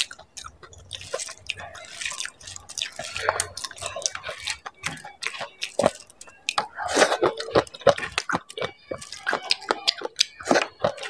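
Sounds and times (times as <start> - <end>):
wet chewing: 0.0 - 11.0
wet clicks and squelches: 0.0 - 11.0.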